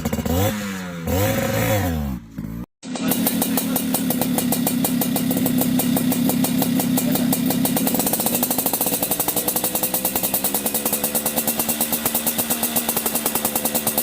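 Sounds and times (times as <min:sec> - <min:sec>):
two-stroke motorcycle engine idling: 0:00.0 - 0:01.5, 0:02.2 - 0:14.0.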